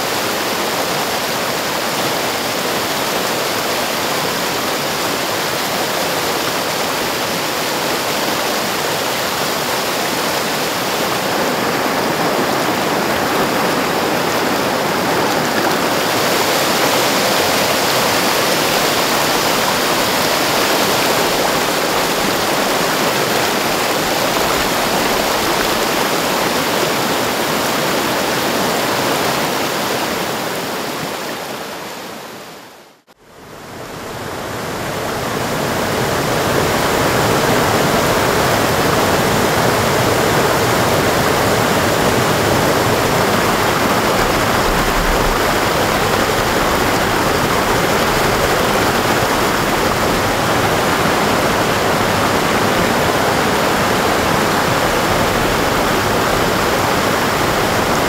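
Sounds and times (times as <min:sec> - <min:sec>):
stream cascading over boulders: 0:00.0 - 0:58.0.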